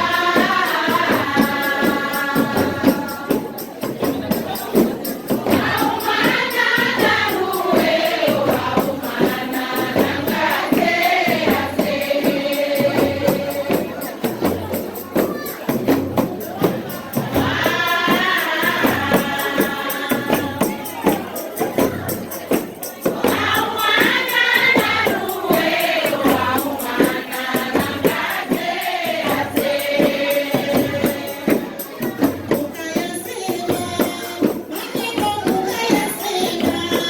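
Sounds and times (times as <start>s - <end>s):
group singing in chorus: 0.0s - 15.0s, 15.7s - 37.0s
frame drums with jingles: 0.0s - 37.0s.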